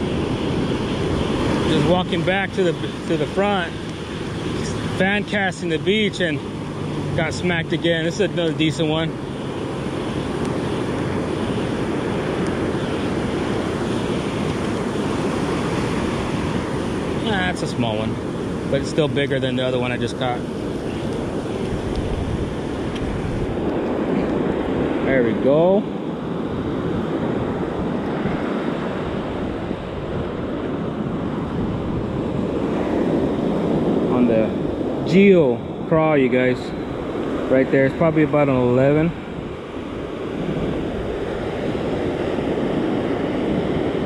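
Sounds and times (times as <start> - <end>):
ocean surf breaking: 0.0 - 44.0
wind on microphone: 0.0 - 44.0.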